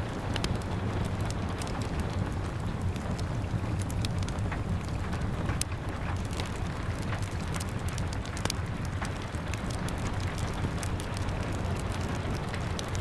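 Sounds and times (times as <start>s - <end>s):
low rumble of rain: 0.0s - 13.0s
wood fire crackling: 0.0s - 13.0s.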